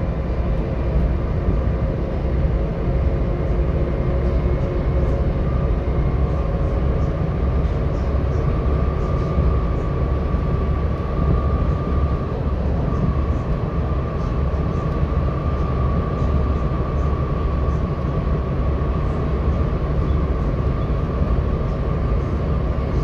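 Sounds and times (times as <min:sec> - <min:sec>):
bus diesel engine rumble: 0:00.0 - 0:23.0
thin steady whine: 0:00.0 - 0:23.0.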